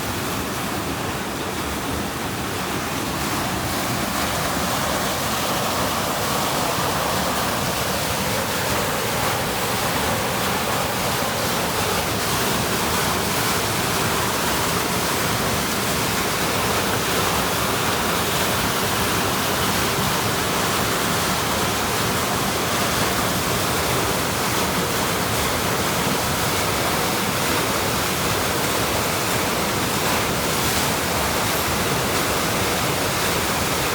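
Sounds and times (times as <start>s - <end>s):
water pouring over small waterfall: 2.2s - 33.9s.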